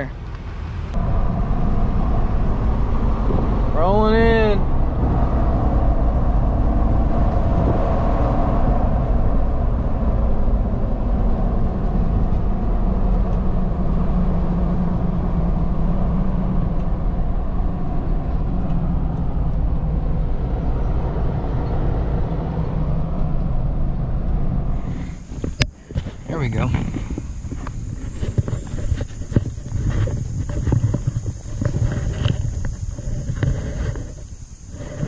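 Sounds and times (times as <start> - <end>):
car engine rumbling: 0.0 - 35.0
road noise: 0.0 - 35.0.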